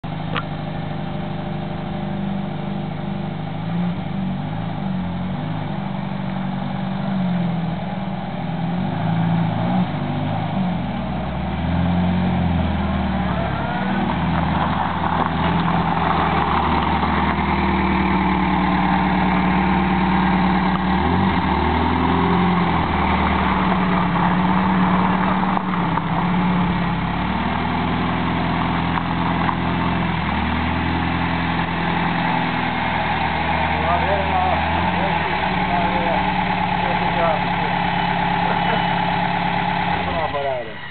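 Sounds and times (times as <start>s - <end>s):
car engine at low speed: 0.0s - 40.9s.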